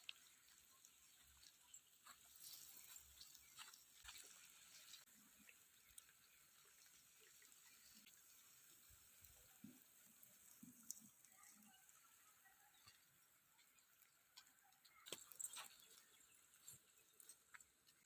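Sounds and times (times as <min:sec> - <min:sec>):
irrigation water flowing: 0:00.0 - 0:18.0
small drips and ticks: 0:00.0 - 0:18.0.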